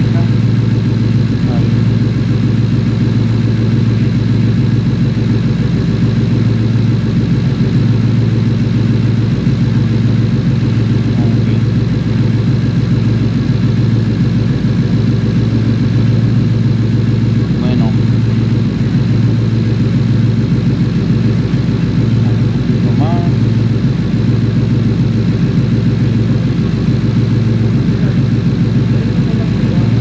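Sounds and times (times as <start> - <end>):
car engine idling and misfiring: 0.0 - 30.0.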